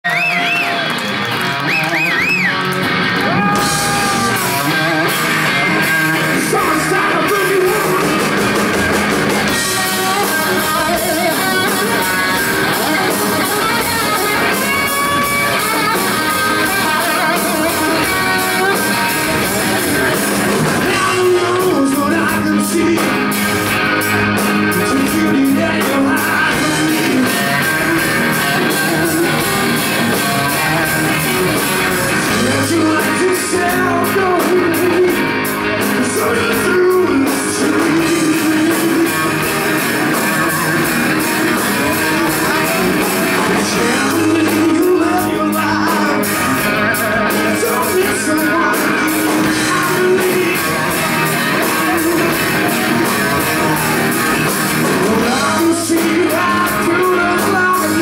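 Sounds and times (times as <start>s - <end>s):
live rock band playing: 0.0s - 58.0s
electric guitar bending notes: 0.1s - 58.0s.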